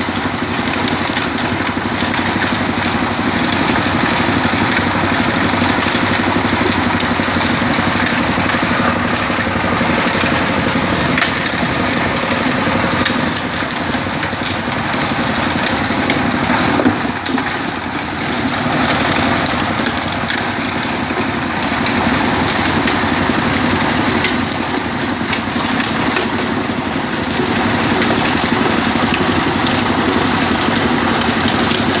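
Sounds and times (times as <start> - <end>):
rock crusher grinding: 0.0 - 32.0.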